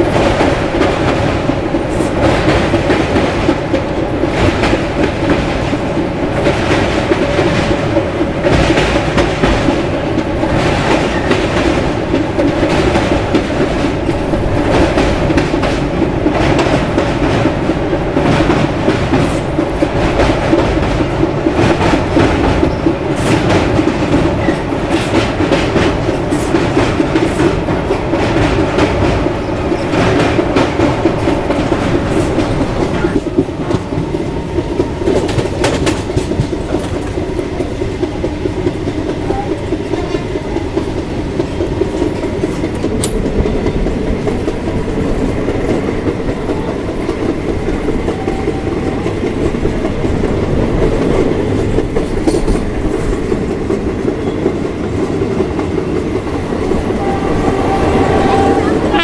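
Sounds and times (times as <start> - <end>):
train coaches rumbling: 0.0 - 59.0
wheels clickety-clack: 0.0 - 59.0.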